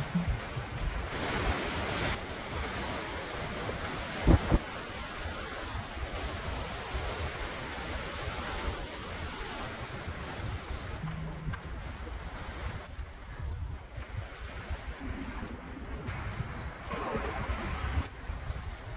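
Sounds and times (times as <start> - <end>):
waves washing over rocks: 0.0 - 18.9
wind on microphone: 0.0 - 18.9.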